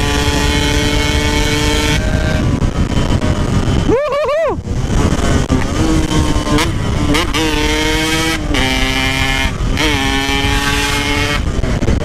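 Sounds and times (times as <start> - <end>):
motorcycle engine at high revs: 0.0 - 3.9, 4.6 - 12.0.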